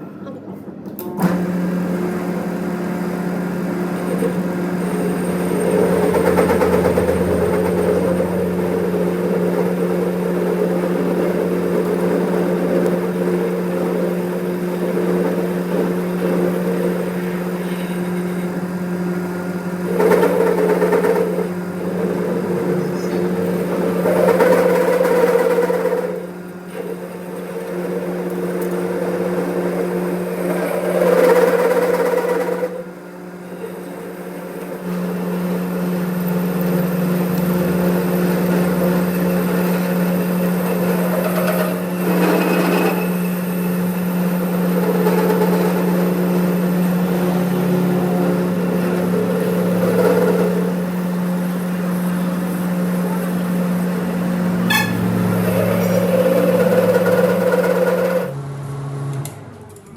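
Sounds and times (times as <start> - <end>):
machine motor humming: 1.1 - 59.9.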